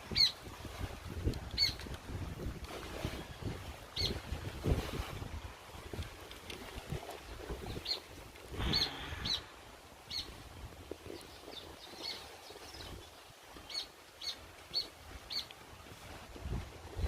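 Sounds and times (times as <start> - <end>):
wind rumble on microphone: 0.0 - 13.7, 14.8 - 17.0.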